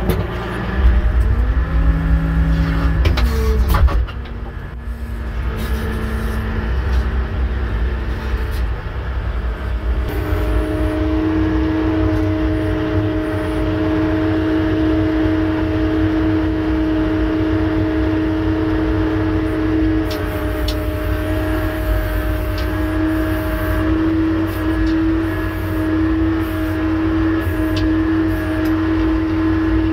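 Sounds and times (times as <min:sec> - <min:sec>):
diesel engine low rumble: 0:00.0 - 0:29.9
steady whine: 0:00.0 - 0:29.9.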